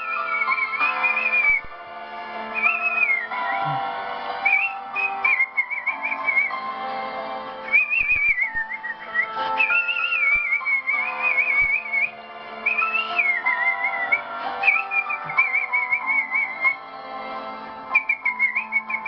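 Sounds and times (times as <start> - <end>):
person whistling a melody: 0.0 - 1.8, 2.5 - 6.7, 7.6 - 17.0, 17.9 - 19.0
instrumental backing track: 0.0 - 19.0.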